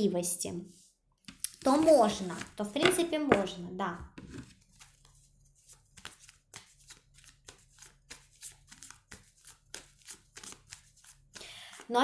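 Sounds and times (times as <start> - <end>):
cards being shuffled: 1.3 - 3.5, 4.3 - 11.9.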